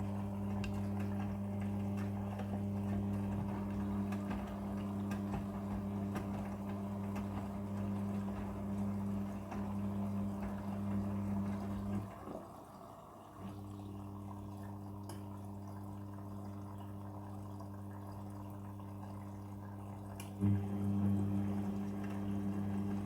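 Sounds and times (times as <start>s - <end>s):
washing machine electrical hum: 0.0s - 23.0s
water running: 0.0s - 23.0s.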